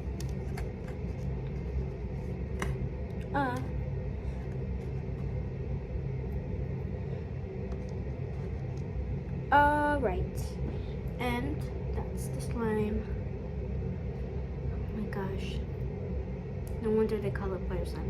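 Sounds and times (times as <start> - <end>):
low rumbling hum: 0.0 - 18.0.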